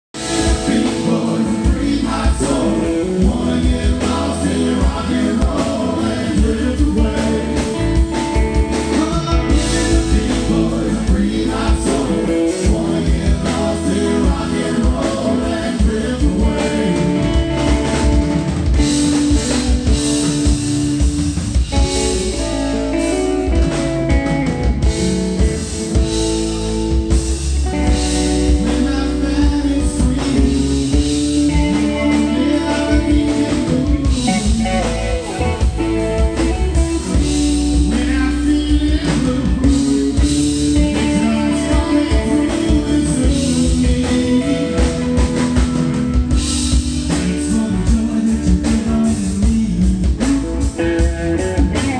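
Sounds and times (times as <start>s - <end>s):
bass guitar: 0.0s - 51.9s
electric guitars: 0.1s - 51.9s
person singing: 0.2s - 20.0s, 27.6s - 46.1s, 47.1s - 51.9s.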